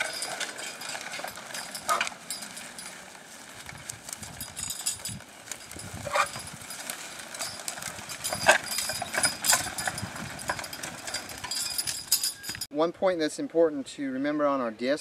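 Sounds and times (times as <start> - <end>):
horse hoofbeats: 0.0 - 12.7
metal harrow clanking and rattling: 0.0 - 12.7.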